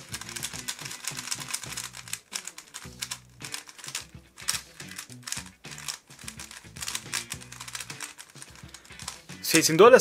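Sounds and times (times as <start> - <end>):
puzzle cube clicking: 0.0 - 9.4
background music: 0.0 - 10.0.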